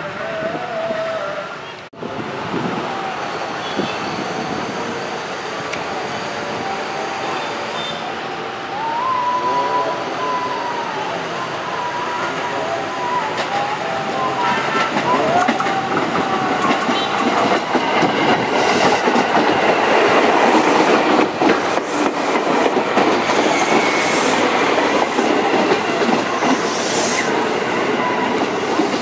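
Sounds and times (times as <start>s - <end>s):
electric train rumbling past: 0.0s - 29.0s.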